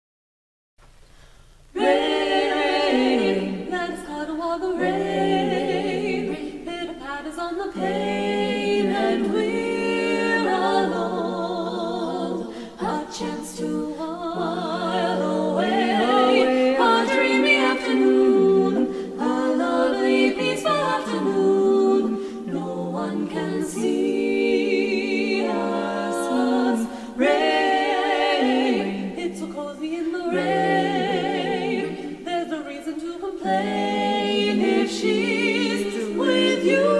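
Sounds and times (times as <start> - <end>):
women singing a cappella in harmony: 1.1 - 36.9.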